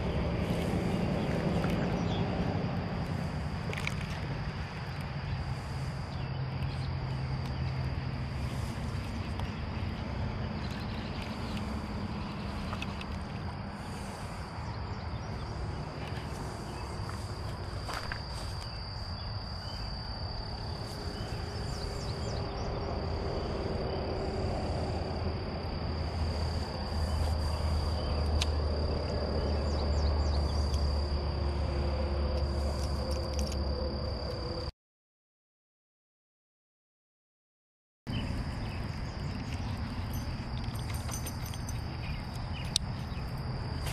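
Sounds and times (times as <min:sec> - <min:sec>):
high-pitched insect drone: 0:00.0 - 0:34.7, 0:38.1 - 0:43.9
low hum: 0:00.0 - 0:34.7, 0:38.1 - 0:43.9.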